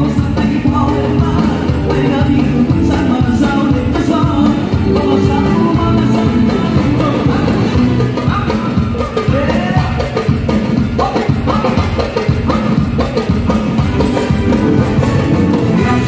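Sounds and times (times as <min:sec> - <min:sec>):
man singing: 0:00.0 - 0:14.0
band with drums and keyboard: 0:00.0 - 0:16.0.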